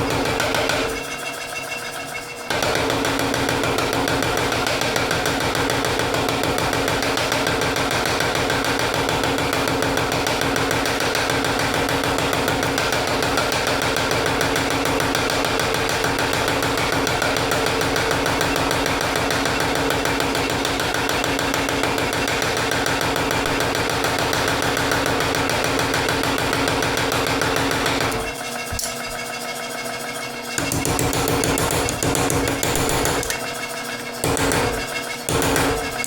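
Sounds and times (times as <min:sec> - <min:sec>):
machine running with rapid pulsing: 0:00.0 - 0:36.0.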